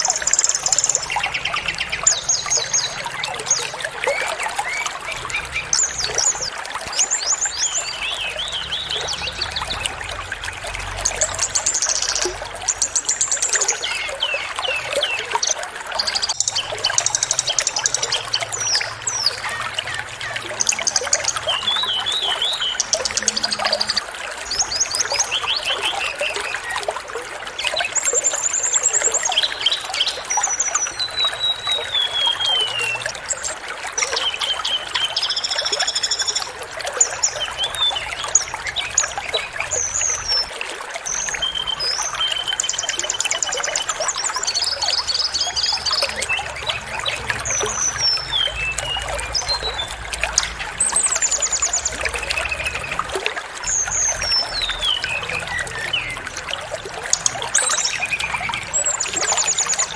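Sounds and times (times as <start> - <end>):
songbirds chirping and trilling: 0.0 - 59.9
trickle of running water: 0.0 - 59.9.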